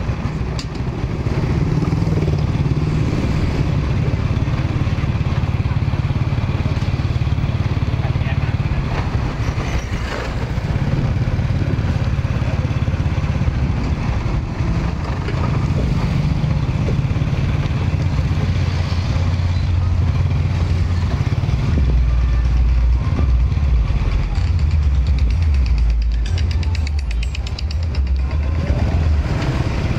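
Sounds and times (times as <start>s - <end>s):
engine running: 0.0s - 29.9s
street noise: 0.0s - 29.9s.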